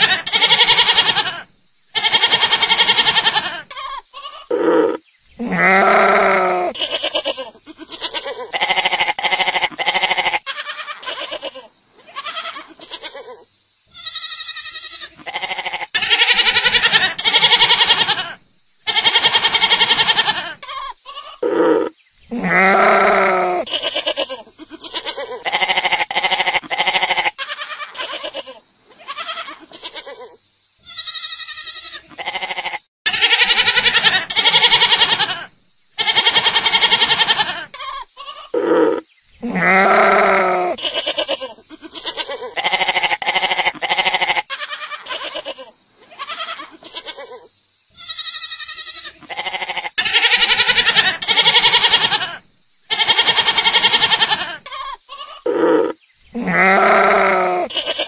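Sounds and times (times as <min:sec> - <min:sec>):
goats bleating: 0:02.0 - 0:13.3, 0:14.0 - 0:30.3, 0:30.9 - 0:47.4, 0:48.0 - 0:58.0.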